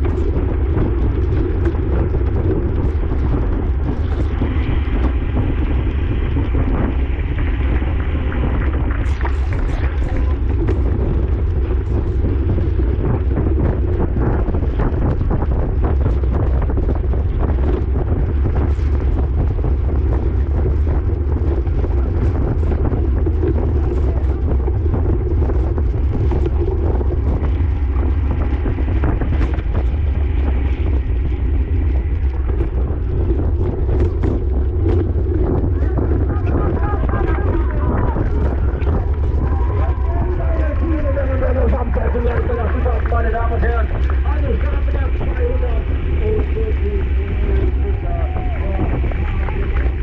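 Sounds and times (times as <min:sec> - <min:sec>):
scattered clicks and ticks: 0:00.0 - 0:50.0
wind buffeting microphone: 0:00.0 - 0:50.0.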